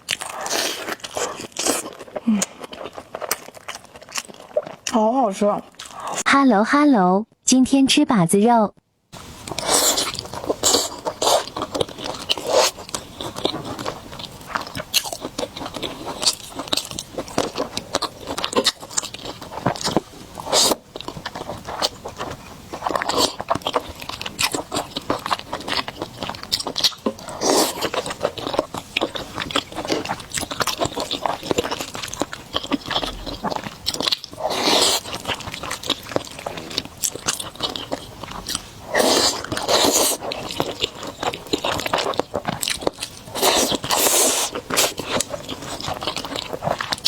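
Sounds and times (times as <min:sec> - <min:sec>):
biting and chewing: 0:00.0 - 0:06.3, 0:09.2 - 0:47.0.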